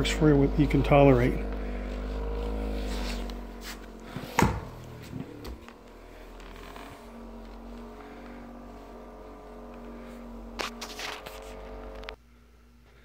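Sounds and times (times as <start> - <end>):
vibrating roller motor humming: 0.0 - 12.2.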